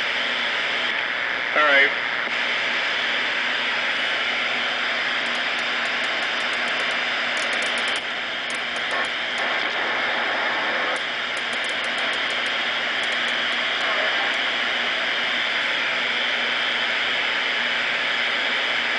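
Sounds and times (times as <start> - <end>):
faint hum: 0.0 - 18.9
radio static hiss: 0.5 - 18.9.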